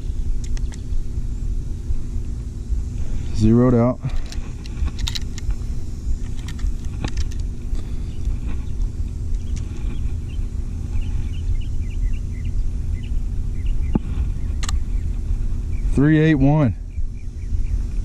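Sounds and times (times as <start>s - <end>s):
faint hum: 0.0s - 18.0s
low outdoor rumble: 0.0s - 18.0s.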